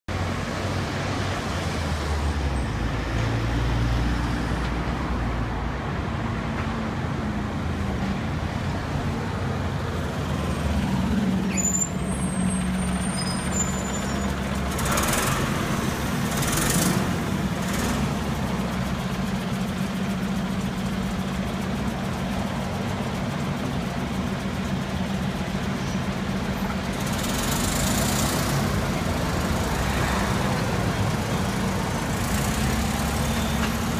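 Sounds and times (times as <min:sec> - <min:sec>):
bus diesel engine passing: 0:00.1 - 0:33.9.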